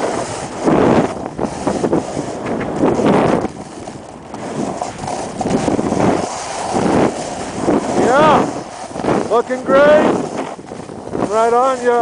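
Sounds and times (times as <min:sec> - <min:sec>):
skis scraping over snow: 0:00.0 - 0:12.0
wind buffeting microphone: 0:00.0 - 0:12.0.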